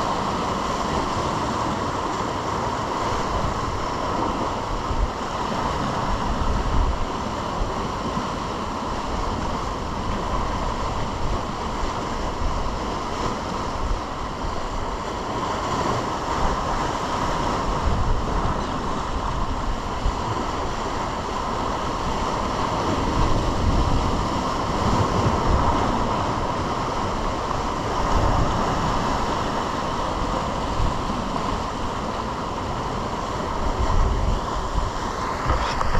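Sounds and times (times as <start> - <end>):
ocean surf washing: 0.0 - 35.9
wind gusting on microphone: 0.0 - 35.9.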